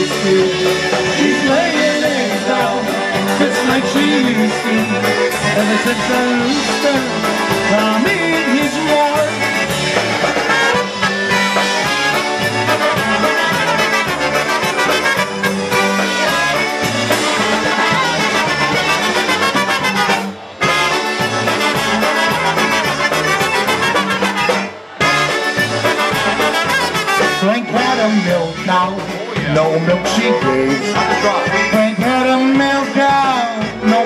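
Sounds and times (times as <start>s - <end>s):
accordion: 0.0s - 34.0s
drums: 0.0s - 34.0s
trumpets playing melody: 0.0s - 34.0s.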